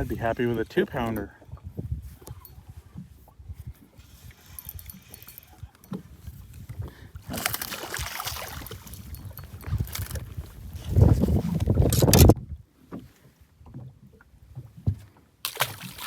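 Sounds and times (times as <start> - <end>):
rushing wind and water: 0.0 - 16.0.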